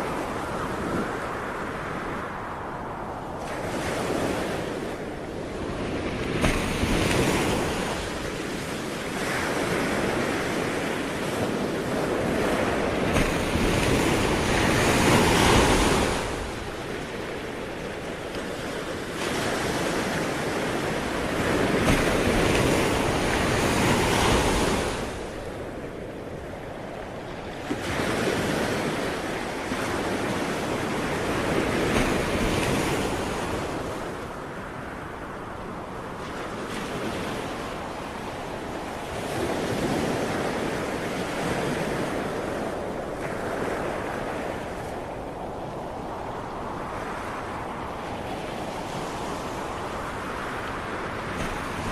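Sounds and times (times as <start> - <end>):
ocean waves breaking on shore: 0.0 - 51.9
wind noise on microphone: 0.0 - 51.9.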